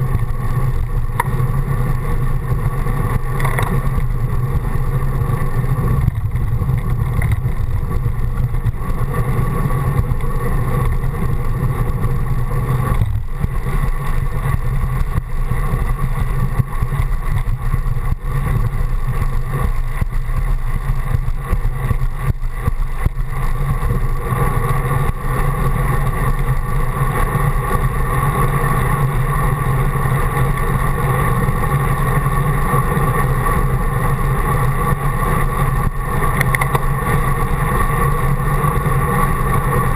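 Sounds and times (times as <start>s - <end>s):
wind and road vibration rumble: 0.0s - 39.9s.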